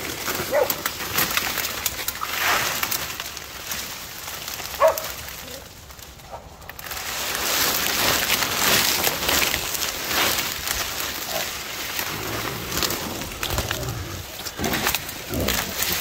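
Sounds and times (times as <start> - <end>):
fronds scraping against camera: 0.0 - 16.0.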